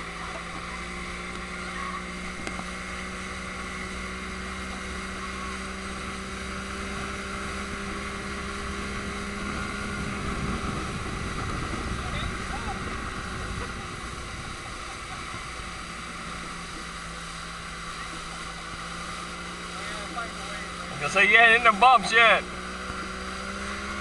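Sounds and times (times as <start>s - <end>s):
motorboat engine humming: 0.0s - 24.0s
water rushing in wake: 0.0s - 24.0s.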